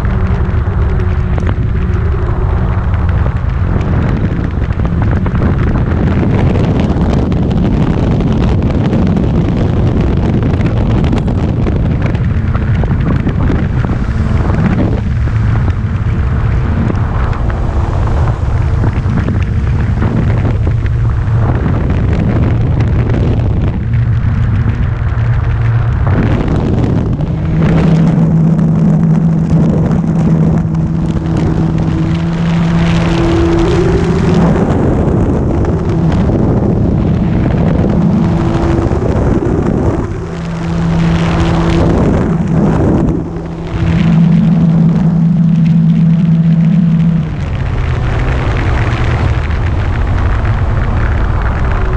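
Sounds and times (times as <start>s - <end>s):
electric motor and propeller hum: 0.0s - 51.9s
wind buffeting microphone: 0.0s - 51.9s.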